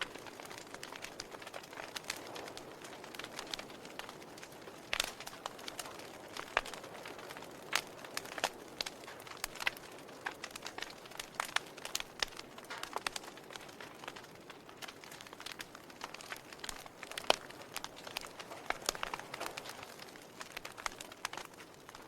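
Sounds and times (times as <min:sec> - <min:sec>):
log fire crackling: 0:00.0 - 0:22.0
soft steady hiss: 0:00.0 - 0:22.0.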